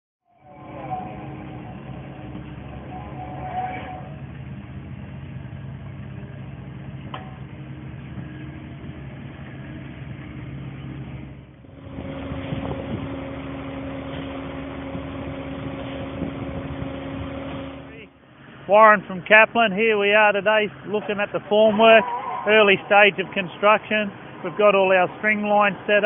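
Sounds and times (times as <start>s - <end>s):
excavator engine running: 0.4s - 26.0s
heavy diesel engine running: 0.4s - 26.0s.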